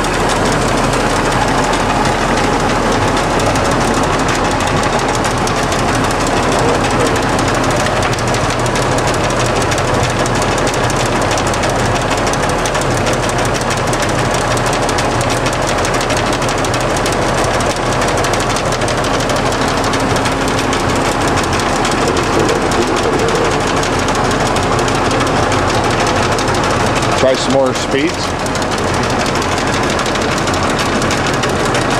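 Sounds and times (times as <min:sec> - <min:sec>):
lathe geared drive whirring: 0:00.0 - 0:31.9.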